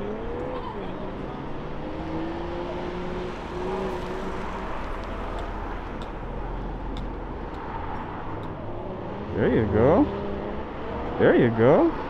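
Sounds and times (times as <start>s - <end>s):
distant car engine: 0.0s - 12.0s
open-air rumble: 0.0s - 12.0s.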